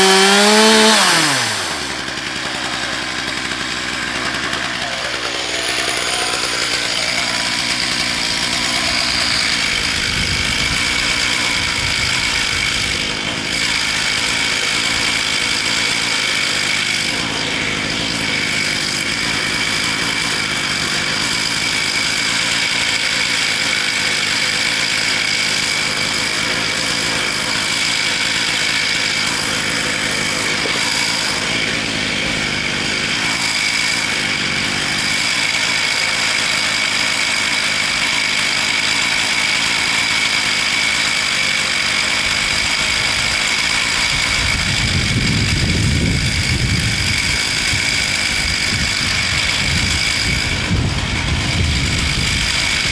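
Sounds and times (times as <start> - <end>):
chainsaw engine idling: 0.0 - 52.9.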